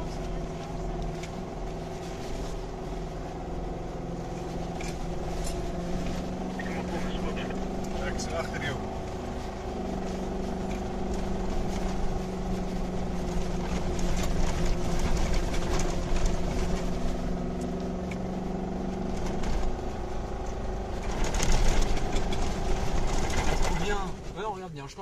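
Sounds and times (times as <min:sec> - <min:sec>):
car engine under load: 0:00.0 - 0:25.0.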